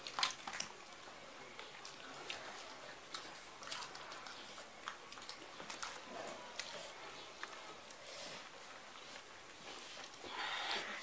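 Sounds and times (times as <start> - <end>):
wet chewing and lip-smacking: 0.0 - 11.0.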